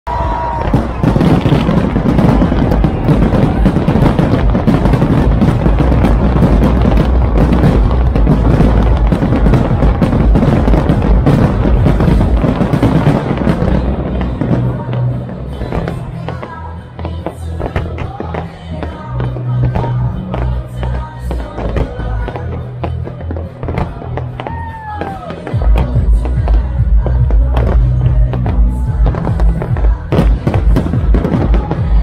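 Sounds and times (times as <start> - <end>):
fireworks bursting and crackling: 0.1 - 32.0
music with deep bass: 0.1 - 32.0.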